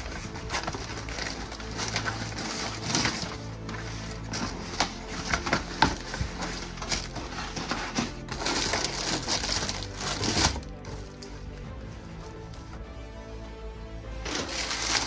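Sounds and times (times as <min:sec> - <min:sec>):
packaging rustling and crinkling: 0:00.0 - 0:12.8, 0:14.2 - 0:15.0.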